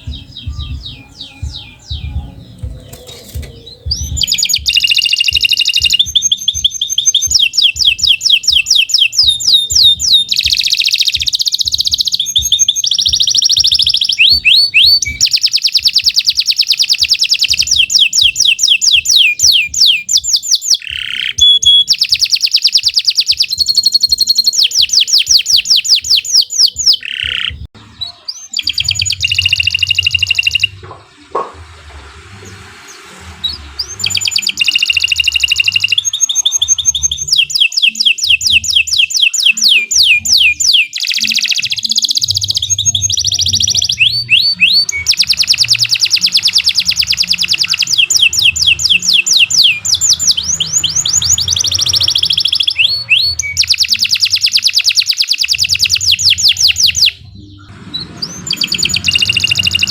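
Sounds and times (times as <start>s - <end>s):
canary singing fast trills: 0.0s - 31.6s, 32.8s - 59.9s.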